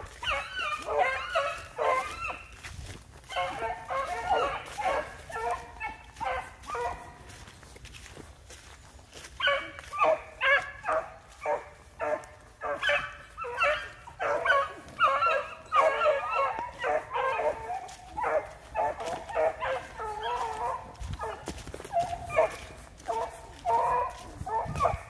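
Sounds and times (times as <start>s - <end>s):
hounds baying: 0.0s - 25.0s.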